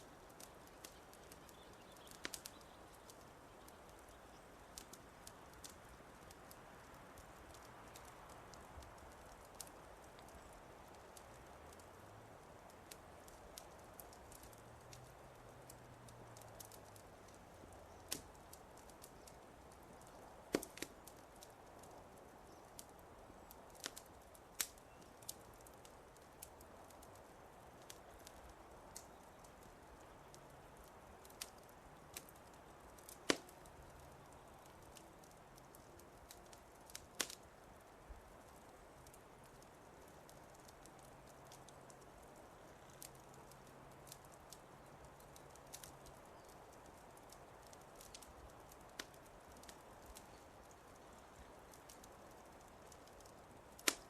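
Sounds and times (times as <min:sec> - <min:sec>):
faint hiss: 0:00.0 - 0:54.0
fireplace fire crackling: 0:00.0 - 0:54.0.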